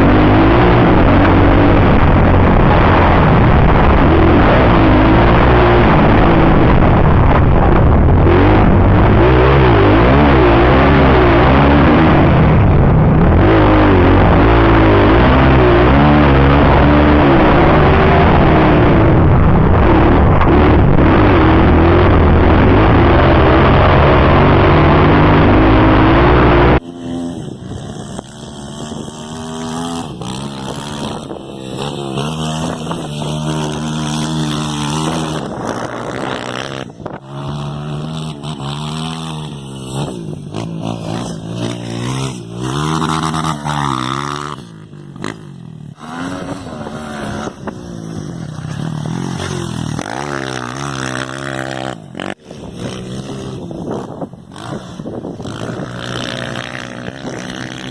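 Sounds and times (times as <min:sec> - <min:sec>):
close engine running hard: 0:00.0 - 0:57.9
motorbike engines revving: 0:00.0 - 0:57.9.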